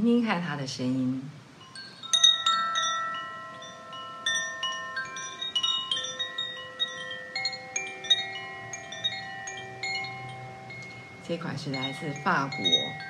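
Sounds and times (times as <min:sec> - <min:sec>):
wind chime ringing: 0:01.6 - 0:13.0.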